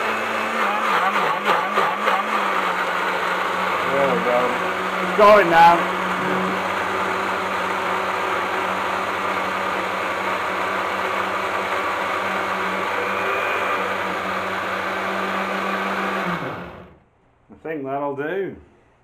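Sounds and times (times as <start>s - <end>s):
blender motor whirring: 0.0s - 17.0s.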